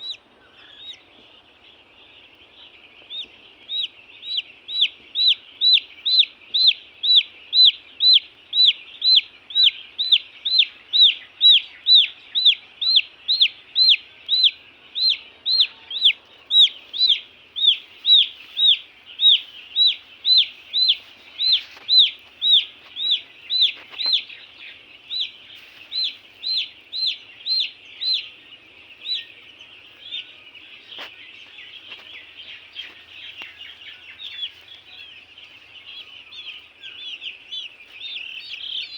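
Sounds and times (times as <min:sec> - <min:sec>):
chick peeping: 0:00.0 - 0:38.9
faint chirping: 0:00.0 - 0:38.9.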